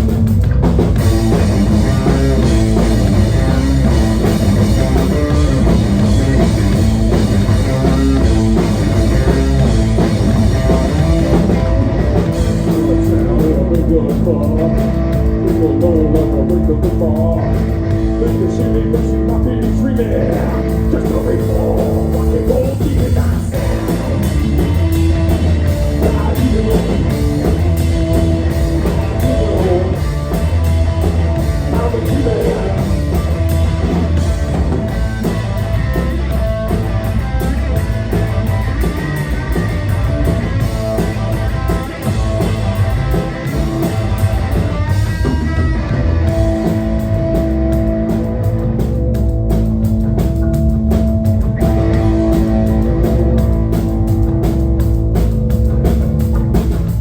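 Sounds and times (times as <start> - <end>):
live punk rock band: 0.0 - 57.0.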